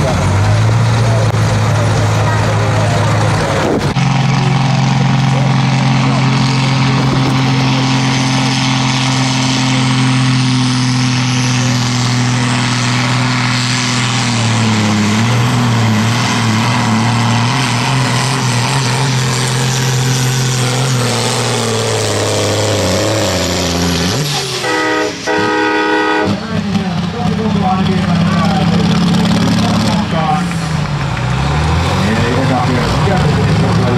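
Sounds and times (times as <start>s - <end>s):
diesel engine running flat out: 0.0s - 33.9s.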